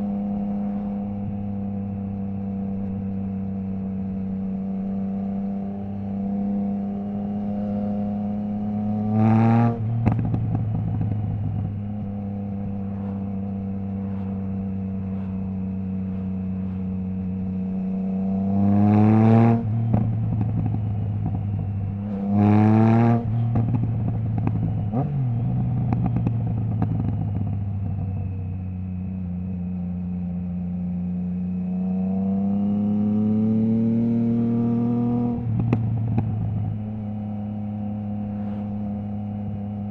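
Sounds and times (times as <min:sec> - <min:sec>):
exhaust crackle: 0:00.0 - 0:32.0, 0:32.7 - 0:39.9
motorcycle engine accelerating: 0:00.0 - 0:39.9.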